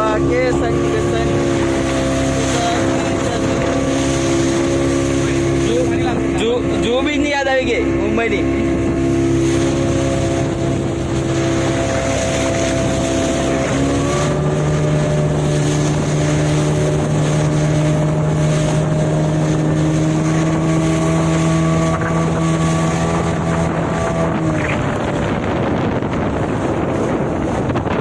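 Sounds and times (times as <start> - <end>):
motorboat engine running: 0.0 - 28.0
wind on microphone: 0.0 - 28.0.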